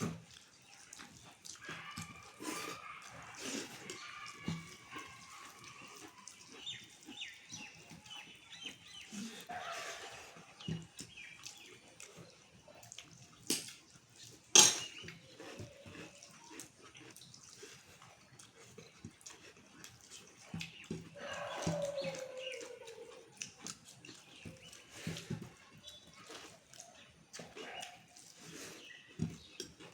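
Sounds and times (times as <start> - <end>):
chewing and slurping mouth noises: 0.0 - 29.9.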